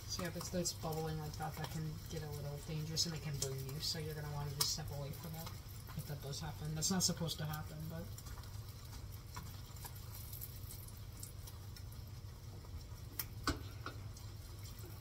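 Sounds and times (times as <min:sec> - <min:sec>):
butter popping and crackling: 0:00.0 - 0:15.0.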